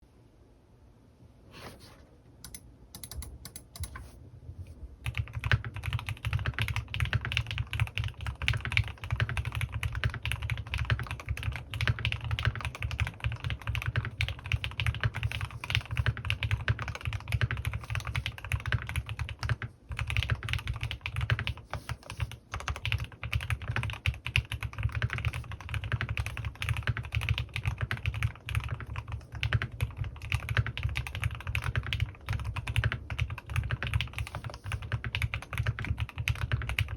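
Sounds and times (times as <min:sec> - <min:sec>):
typing on mechanical keyboard: 0:02.4 - 0:04.1, 0:05.0 - 0:36.9.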